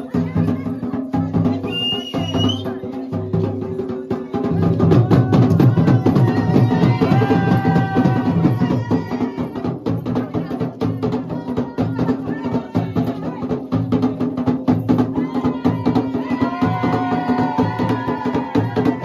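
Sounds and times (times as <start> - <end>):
fast steady drum beat: 0.0 - 19.0.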